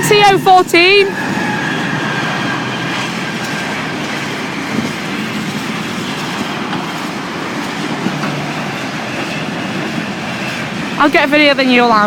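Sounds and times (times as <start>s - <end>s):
freight train wagons clattering: 0.0s - 12.0s.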